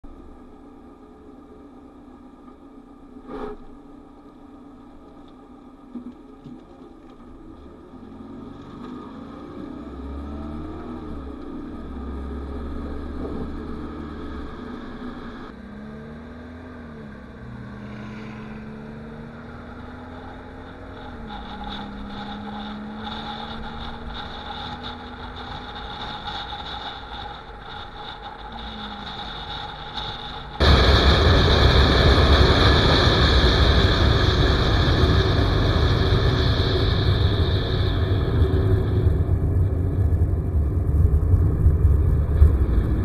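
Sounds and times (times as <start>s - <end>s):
car engine rising and falling: 0.0s - 43.0s
wind and road noise: 0.0s - 43.0s.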